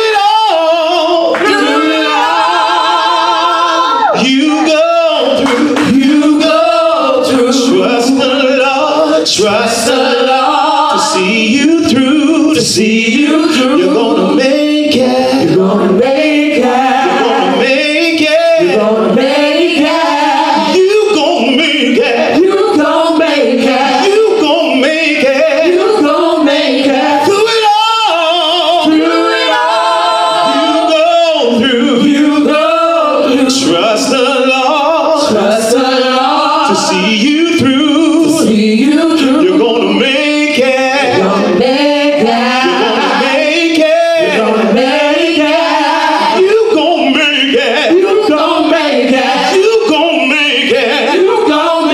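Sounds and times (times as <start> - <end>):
gospel choir singing in harmony: 0.0 - 51.9.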